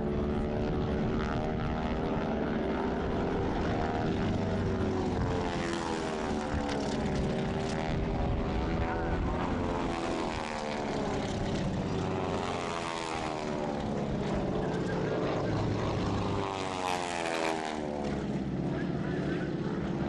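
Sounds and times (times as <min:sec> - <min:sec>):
propeller planes droning overhead: 0:00.0 - 0:20.0.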